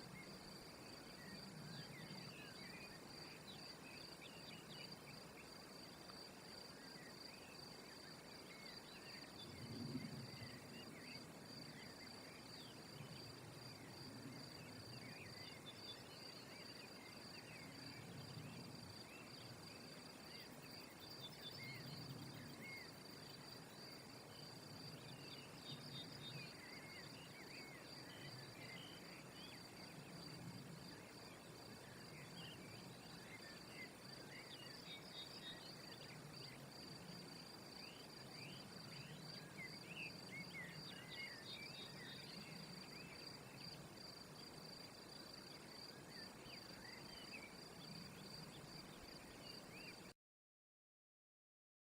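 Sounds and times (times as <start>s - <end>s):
crickets trilling: 0.1s - 50.0s.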